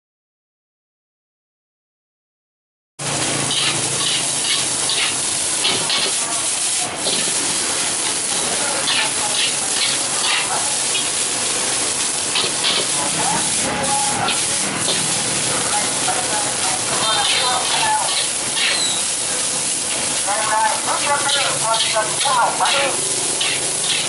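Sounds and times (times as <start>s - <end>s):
rice sizzling in a wok: 3.0s - 24.0s.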